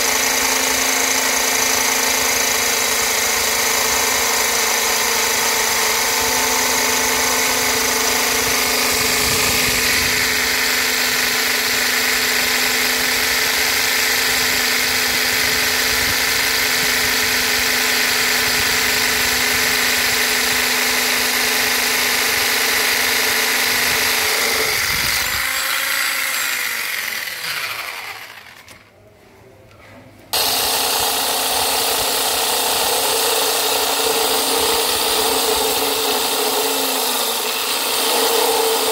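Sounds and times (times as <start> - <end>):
core drill grinding into stone: 0.0 - 28.8, 30.4 - 38.9.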